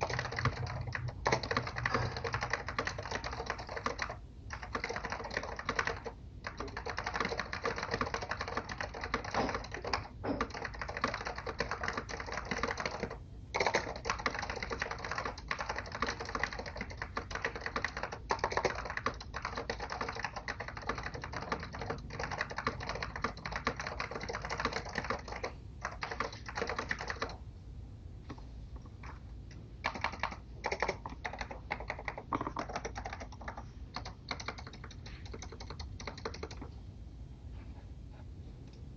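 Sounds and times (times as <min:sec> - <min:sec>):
keyboard typing clatter: 0:00.0 - 0:27.4, 0:28.8 - 0:36.8.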